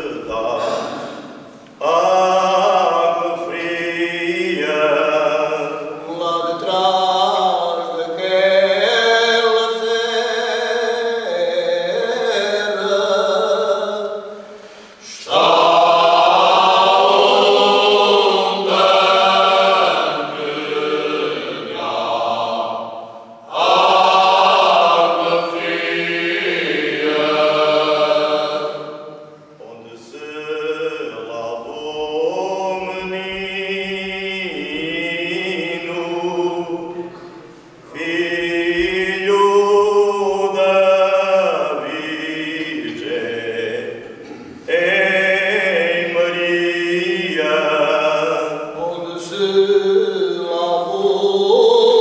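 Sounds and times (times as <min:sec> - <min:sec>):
male choir singing a cappella: 0:00.0 - 0:52.0.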